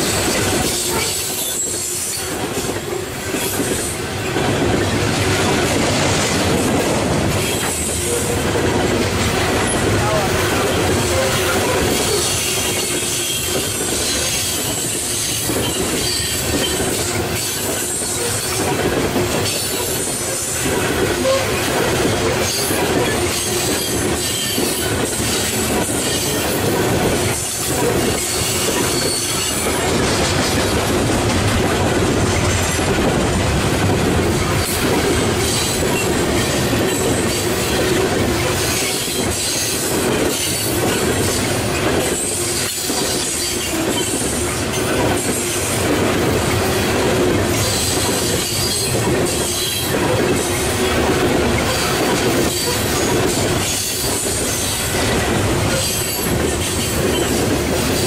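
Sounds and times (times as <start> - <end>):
train wheels squealing on rails: 0.0 - 33.2, 34.2 - 58.0
wheels clacking over rail joints: 0.0 - 58.0.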